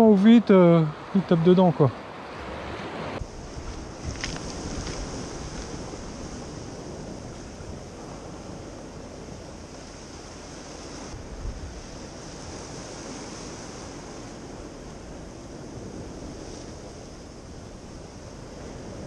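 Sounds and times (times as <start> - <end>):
sea waves washing on shore: 0.0 - 19.0
wind buffeting microphone: 2.2 - 19.0.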